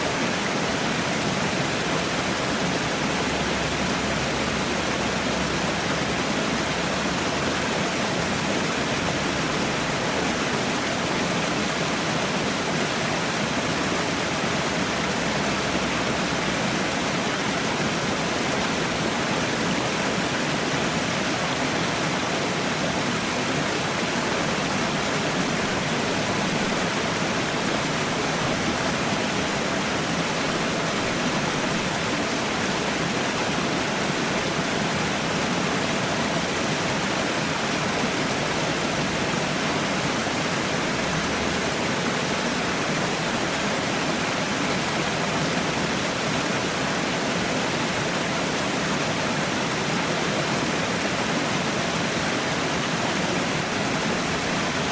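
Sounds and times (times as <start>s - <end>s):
water falling and rushing: 0.0s - 54.9s.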